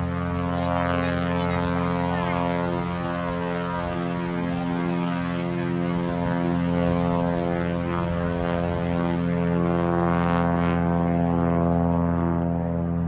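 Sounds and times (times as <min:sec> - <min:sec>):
propeller engine droning: 0:00.0 - 0:13.0.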